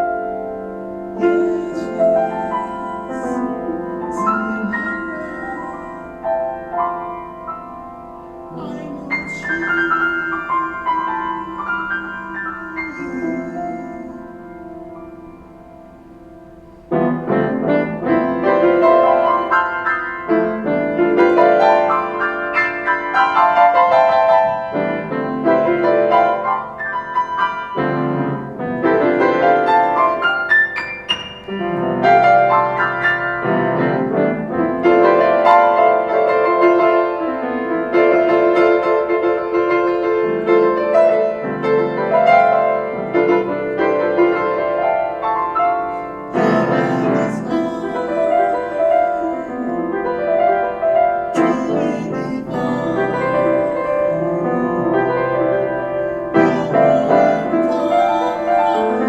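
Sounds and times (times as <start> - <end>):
solo piano playing: 0.0 - 59.0.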